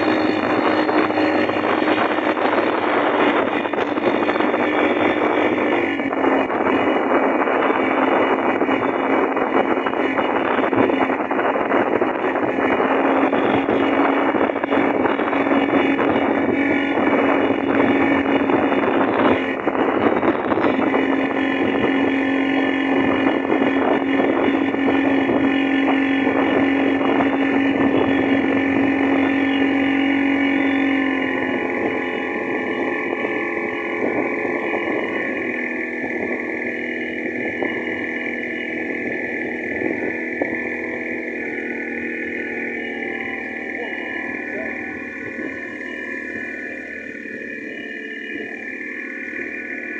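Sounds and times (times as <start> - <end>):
motorboat engine running: 0.0 - 49.9
water rushing: 0.0 - 49.9
wind: 0.0 - 49.9.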